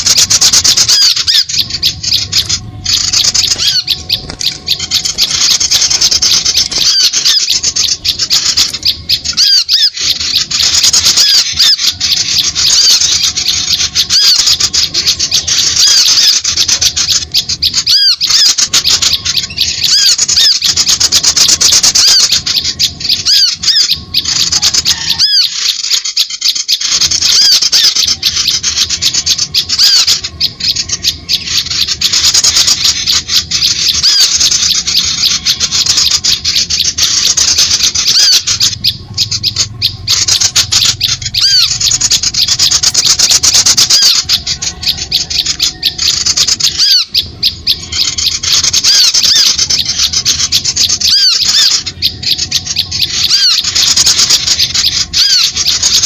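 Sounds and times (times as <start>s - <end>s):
small birds chattering: 0.0s - 56.0s.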